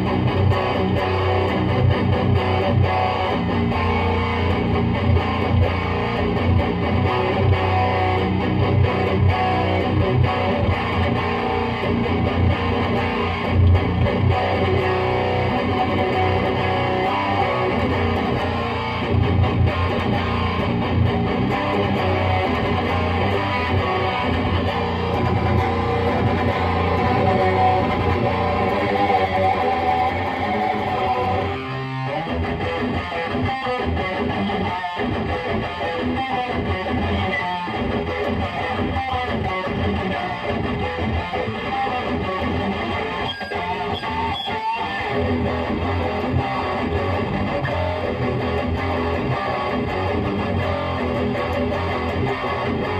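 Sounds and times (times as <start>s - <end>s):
distorted electric guitar riffing: 0.0s - 52.9s.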